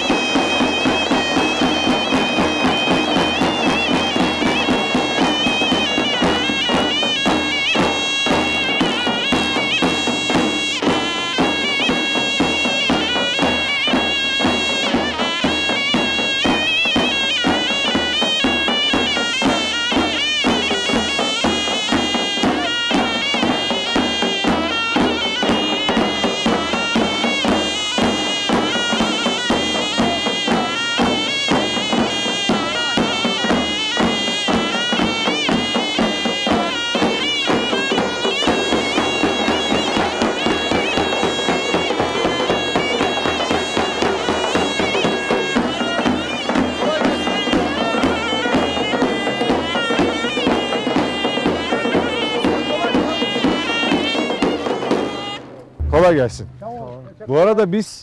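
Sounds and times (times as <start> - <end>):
large drum beats: 0.0 - 57.6
reedy folk melody on shawm: 0.0 - 57.9.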